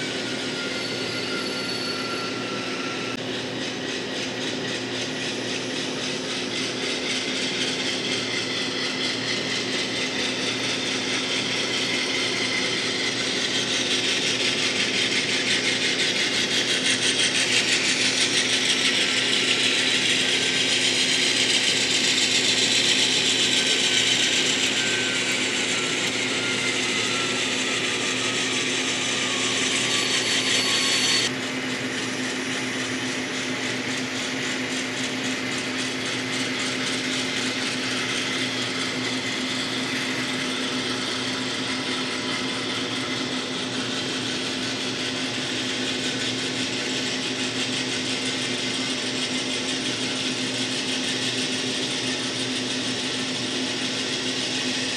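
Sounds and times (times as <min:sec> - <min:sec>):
falling whine: 0:00.0 - 0:47.4
model train motor whirr: 0:00.0 - 0:54.9.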